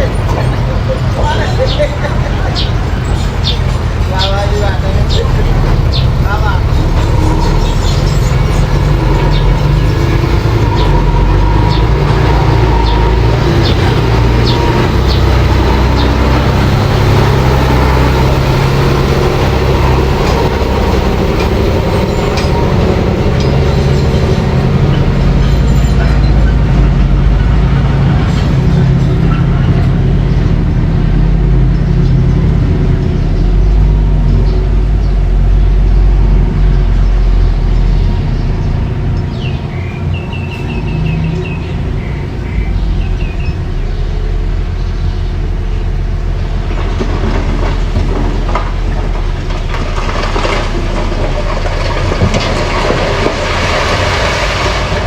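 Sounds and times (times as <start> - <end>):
bulldozer engine running: 0.0 - 55.0.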